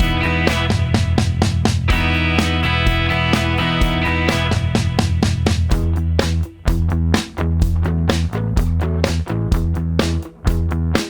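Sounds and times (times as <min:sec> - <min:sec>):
upbeat guitar music: 0:00.0 - 0:11.0.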